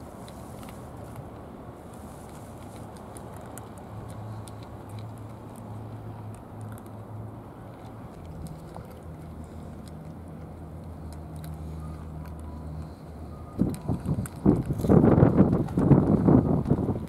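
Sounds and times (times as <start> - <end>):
cats chewing food: 0.0 - 17.0
low outdoor rumble: 0.0 - 17.0.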